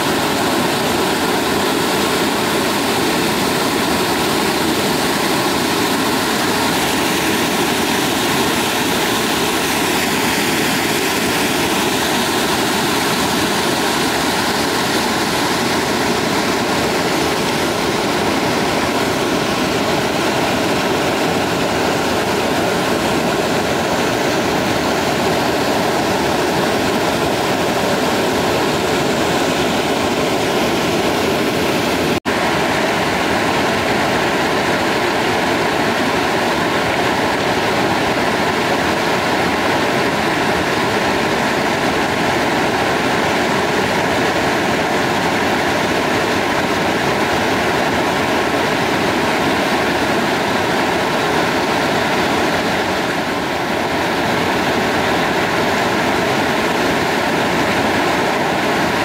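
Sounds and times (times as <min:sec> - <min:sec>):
white water rushing over boulders: 0:00.0 - 0:59.0.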